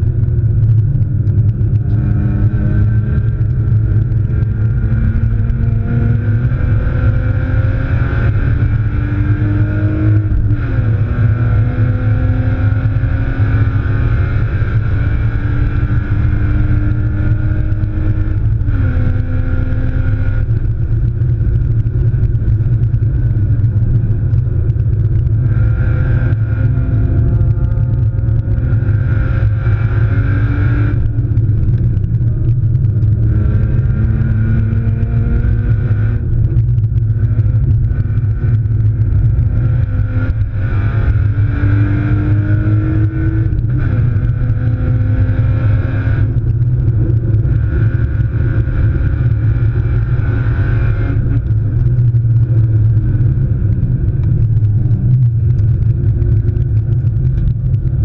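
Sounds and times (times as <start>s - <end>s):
car engine at full throttle: 0.0s - 58.0s
road and wind rumble: 0.0s - 58.0s.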